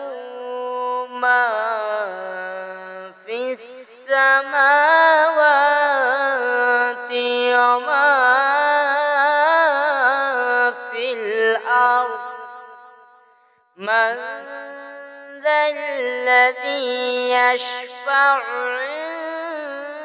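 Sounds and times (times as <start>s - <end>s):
person chanting melodic recitation: 0.0s - 12.8s, 13.8s - 20.0s.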